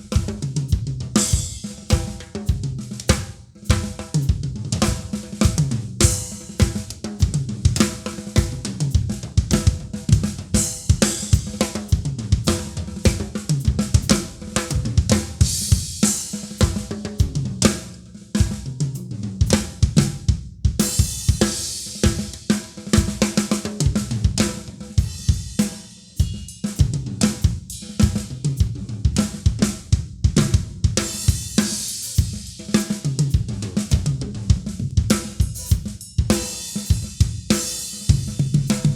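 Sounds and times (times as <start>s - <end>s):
drum kit playing: 0.0s - 38.9s.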